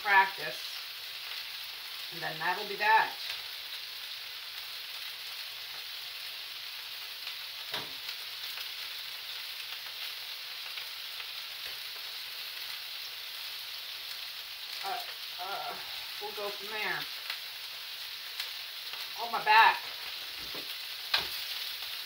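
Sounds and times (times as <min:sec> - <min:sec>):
food sizzling in frying pans: 0:00.0 - 0:22.0.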